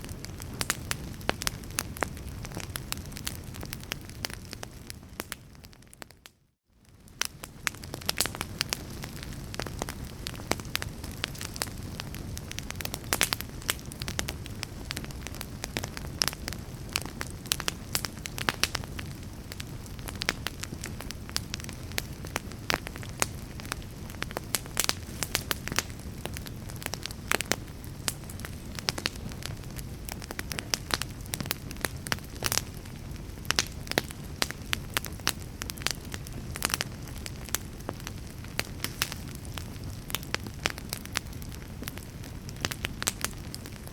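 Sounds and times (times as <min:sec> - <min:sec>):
fire crackling: 0:00.0 - 0:43.9.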